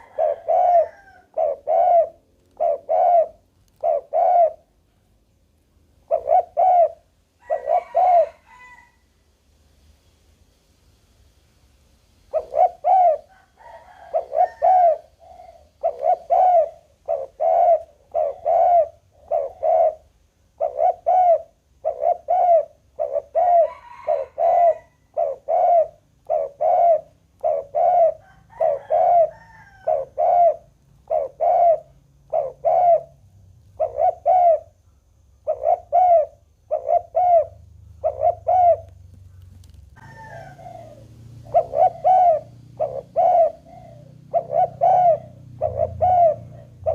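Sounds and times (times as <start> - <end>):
dove cooing: 0.0 - 4.9, 6.0 - 9.0, 12.3 - 46.9.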